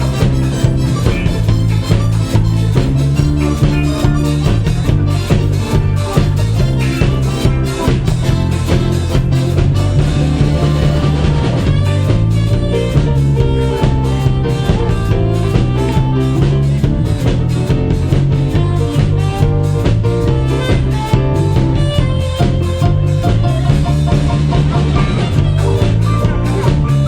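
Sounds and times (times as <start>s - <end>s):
drum kit steady beat: 0.0s - 27.0s
live band playing instrumental: 0.0s - 27.0s.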